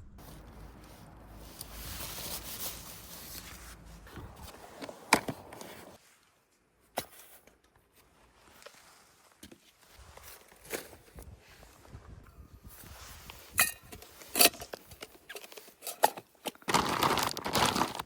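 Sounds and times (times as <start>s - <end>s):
rustling of camping gear: 0.2s - 18.0s.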